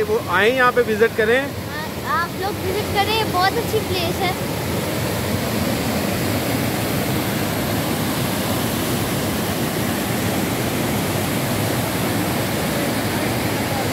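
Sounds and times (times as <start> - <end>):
waterfall and rapids roaring: 0.0 - 13.9.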